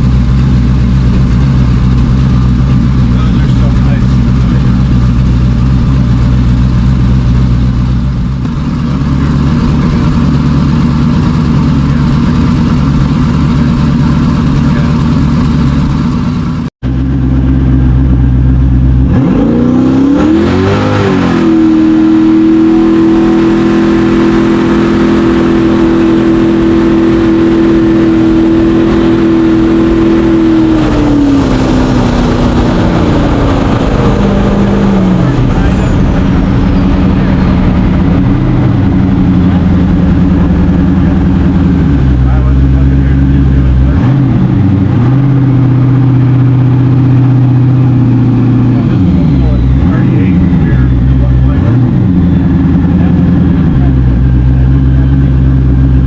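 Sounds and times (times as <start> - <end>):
jet boat engine: 0.0 - 56.0.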